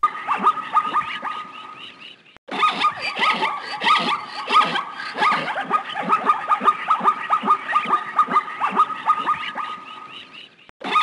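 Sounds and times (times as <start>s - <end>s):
zebra barking: 0.0s - 1.8s, 2.5s - 11.0s.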